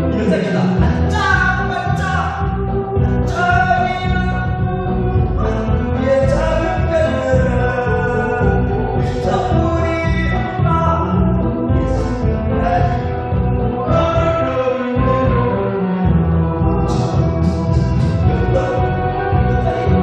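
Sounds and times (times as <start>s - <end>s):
person singing over a beat: 0.6s - 20.0s.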